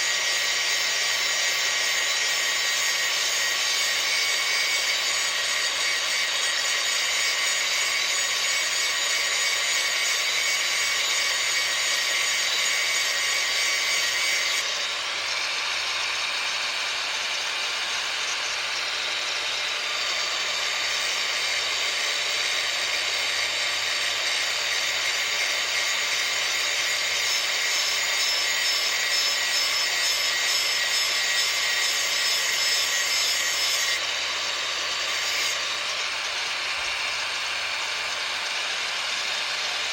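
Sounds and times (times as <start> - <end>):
grinder grinding metal blade: 0.0 - 39.9.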